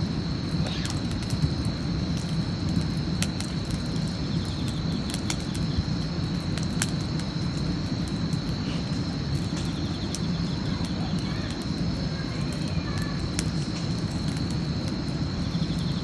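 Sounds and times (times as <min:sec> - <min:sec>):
campfire crackling and popping: 0:00.0 - 0:16.0
low fire rumble: 0:00.0 - 0:16.0.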